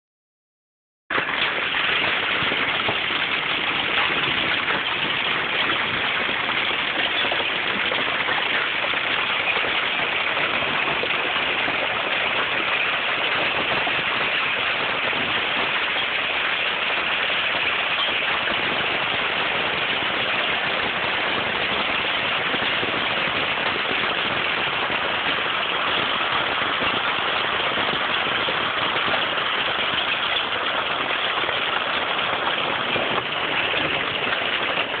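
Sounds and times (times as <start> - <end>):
hail and heavy rain: 1.1 - 35.0.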